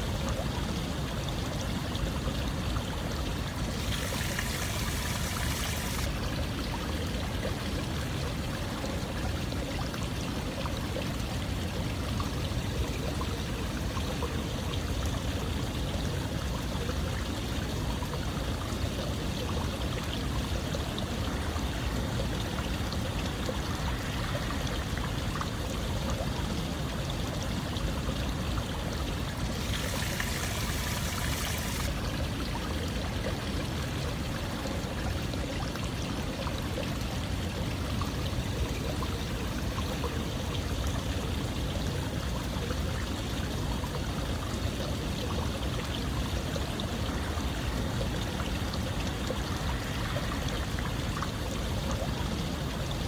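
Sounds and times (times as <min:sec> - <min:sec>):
running water rushing: 0:00.0 - 0:15.6, 0:17.8 - 0:53.0.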